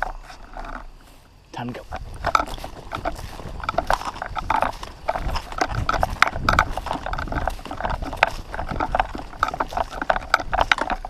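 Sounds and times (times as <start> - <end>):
gear clicking and rattling: 0.0 - 11.0
footsteps swishing through grass: 0.9 - 9.9.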